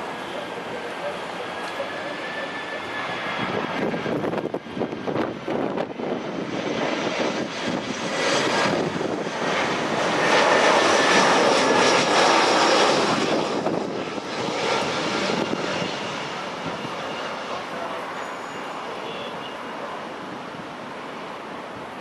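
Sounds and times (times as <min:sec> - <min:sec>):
jet airliner rumble with whine: 0:00.0 - 0:22.0.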